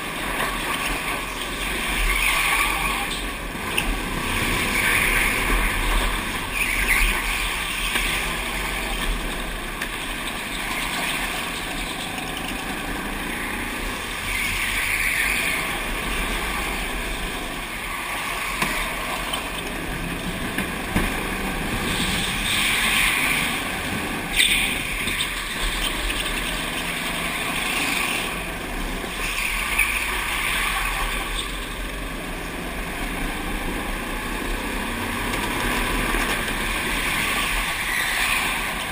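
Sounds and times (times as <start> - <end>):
go-kart motor: 0.0 - 38.9.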